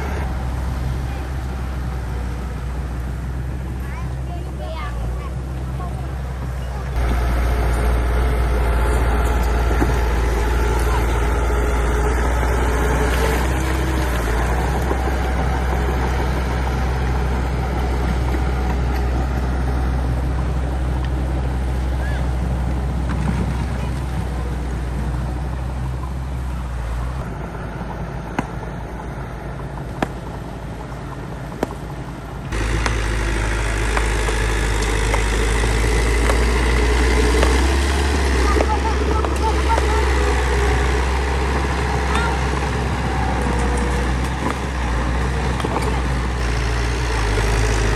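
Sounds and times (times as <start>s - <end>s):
bulldozer diesel engine droning: 0.0s - 47.9s.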